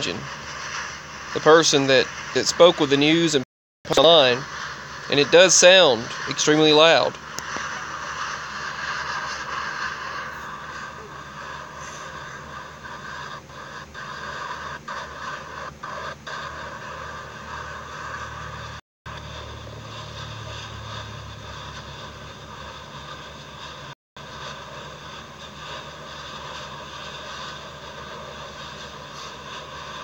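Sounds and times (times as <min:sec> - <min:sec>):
volcanic eruption roaring: 0:00.0 - 0:30.0.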